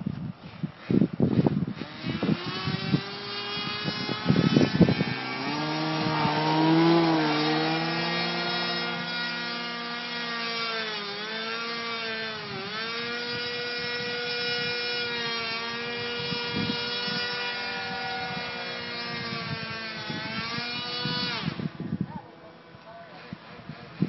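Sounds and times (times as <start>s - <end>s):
model plane engine buzzing: 0.0s - 22.0s, 23.0s - 24.0s.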